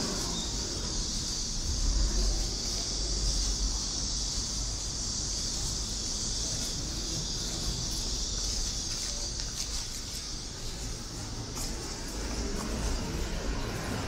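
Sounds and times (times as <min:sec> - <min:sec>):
cicada chorus drone: 0:00.0 - 0:14.0
low traffic rumble: 0:00.0 - 0:14.0.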